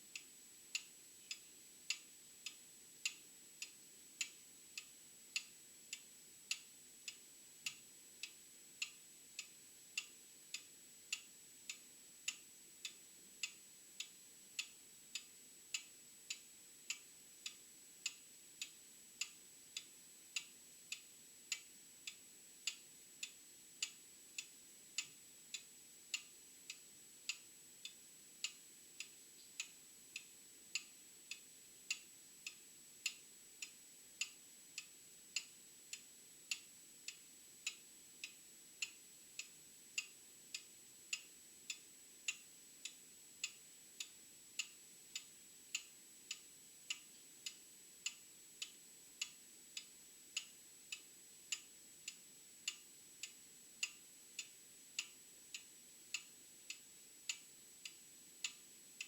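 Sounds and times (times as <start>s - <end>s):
mechanical clock ticking: 0.1s - 58.6s.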